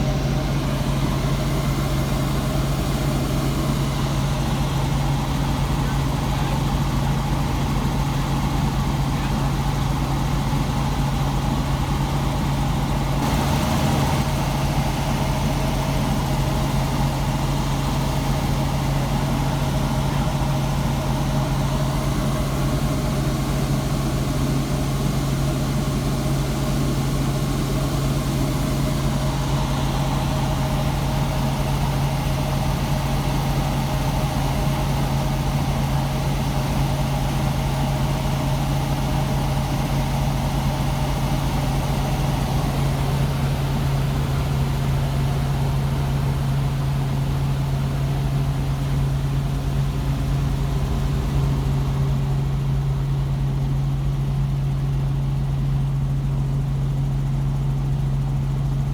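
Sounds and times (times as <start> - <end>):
vehicle engine running steadily: 0.0 - 58.9.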